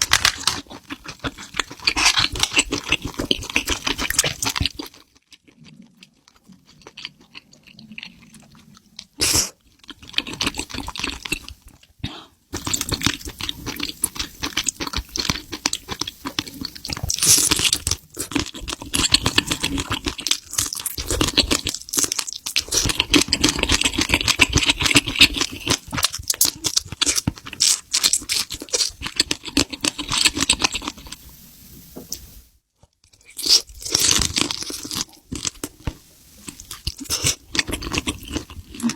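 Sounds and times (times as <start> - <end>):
crunching and chewing seafood: 0.0 - 31.2, 32.8 - 38.9.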